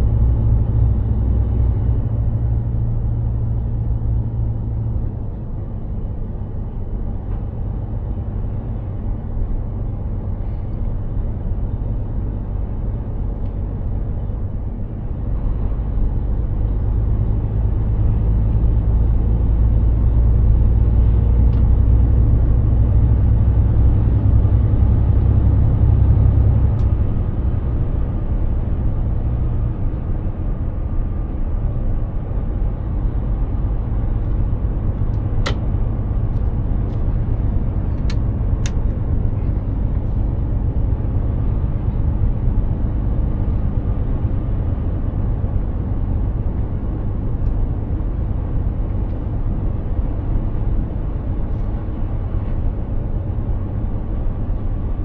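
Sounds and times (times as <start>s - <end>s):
truck driving: 0.0s - 55.0s.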